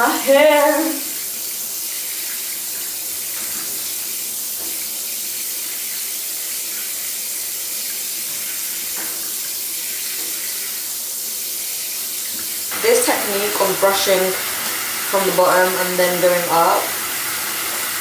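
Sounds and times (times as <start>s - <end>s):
shower water spraying: 0.0s - 18.0s.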